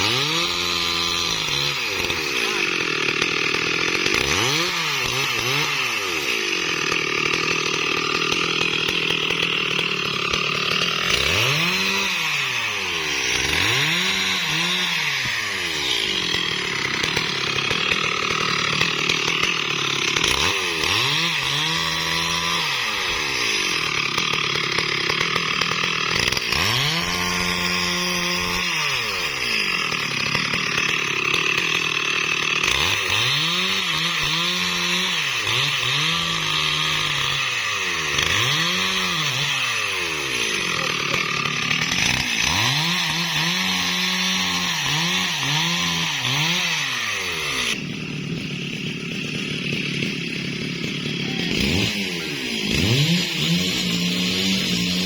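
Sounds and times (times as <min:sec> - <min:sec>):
chainsaw cutting wood: 0:00.0 - 0:55.0
chainsaw engine revving: 0:00.0 - 0:55.0.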